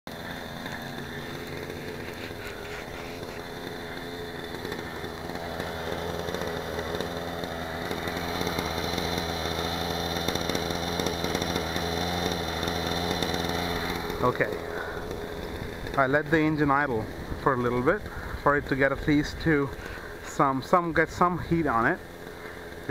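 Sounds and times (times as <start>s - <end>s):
model helicopter engine idling: 0.1s - 22.9s.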